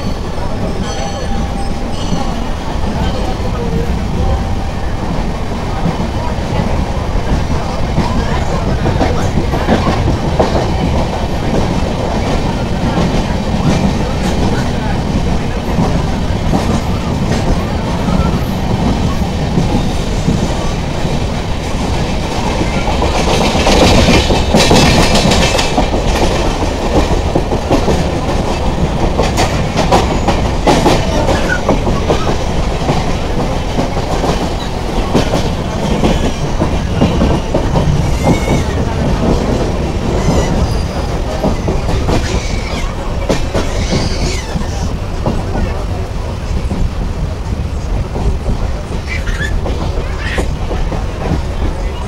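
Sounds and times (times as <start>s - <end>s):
train wheels rumbling: 0.0s - 52.0s.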